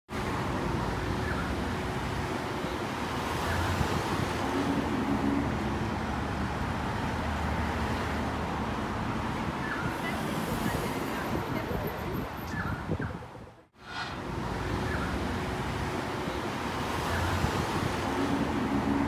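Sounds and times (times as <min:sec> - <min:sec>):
road traffic rumbling: 0:00.1 - 0:19.0.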